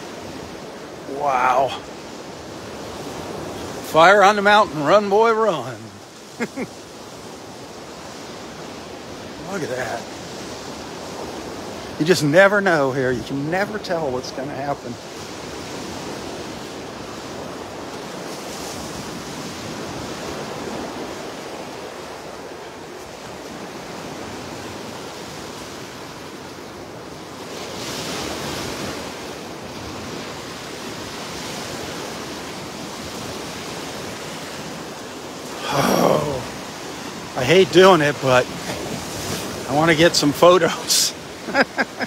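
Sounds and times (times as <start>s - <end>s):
surf breaking on sandy beach: 0.0s - 42.0s.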